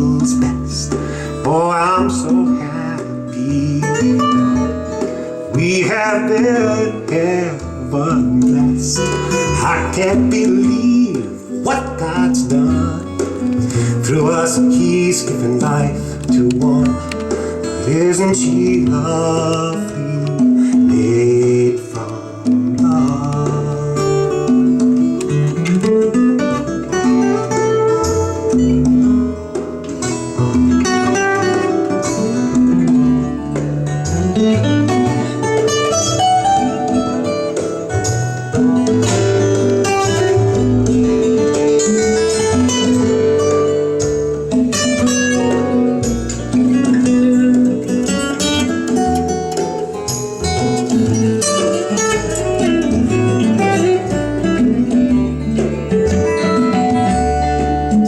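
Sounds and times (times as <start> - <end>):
instrumental guitar music: 0.0 - 58.0.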